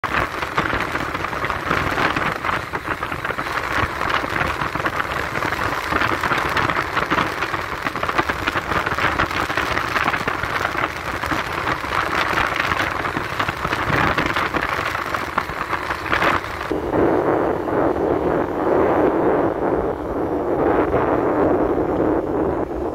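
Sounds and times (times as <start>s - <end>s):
motorcycle road noise: 0.0s - 22.9s
wind rushing over microphone: 0.0s - 22.9s.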